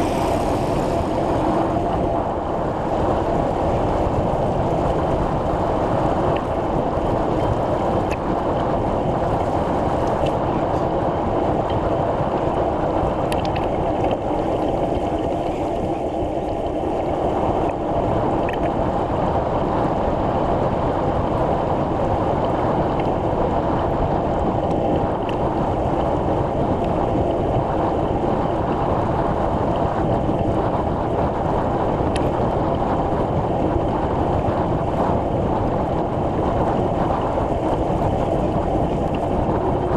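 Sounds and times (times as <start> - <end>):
bicycle road rumble: 0.0 - 39.9
wind over microphone: 0.0 - 39.9.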